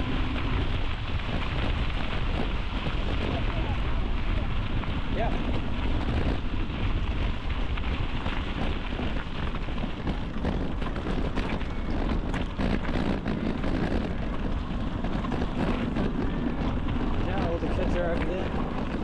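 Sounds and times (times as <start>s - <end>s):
bicycle rolling on trail: 0.0s - 19.0s
wind buffeting microphone: 0.0s - 19.0s.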